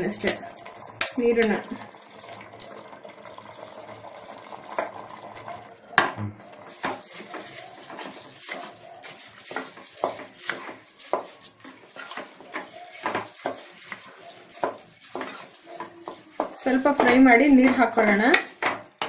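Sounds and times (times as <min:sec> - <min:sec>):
food frying: 0:00.0 - 0:19.0
spoon scraping a pot: 0:00.0 - 0:19.0.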